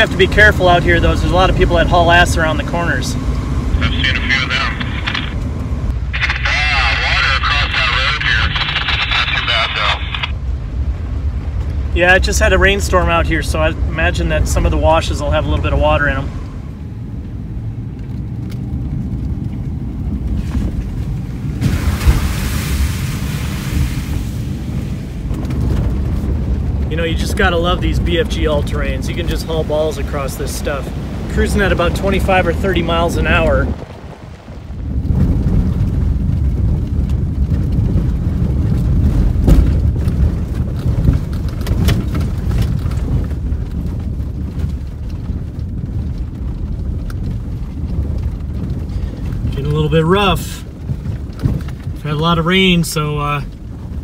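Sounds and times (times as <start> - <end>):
car rumbling on dirt road: 0.0 - 54.0.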